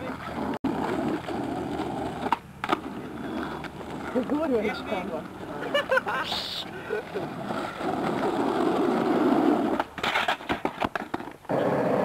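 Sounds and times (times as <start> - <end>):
skateboard clattering on road: 0.0 - 12.0
skateboard wheels rumbling on asphalt: 0.0 - 12.0.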